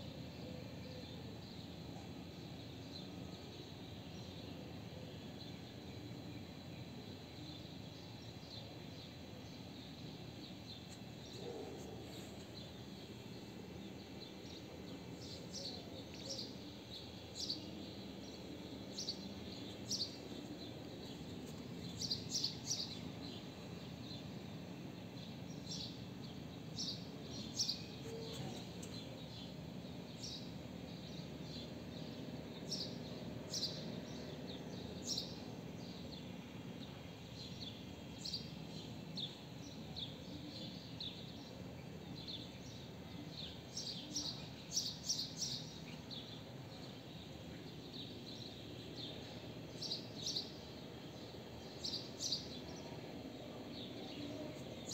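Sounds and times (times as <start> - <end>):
low background hum: 0.1 - 54.9
small birds chirping: 0.8 - 54.9.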